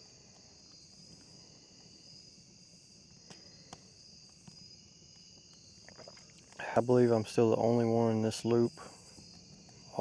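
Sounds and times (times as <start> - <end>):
faint crickets chirping: 0.0 - 10.0.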